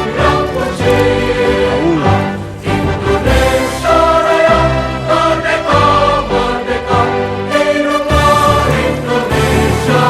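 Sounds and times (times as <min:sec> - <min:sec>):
choral-style voices: 0:00.0 - 0:10.0.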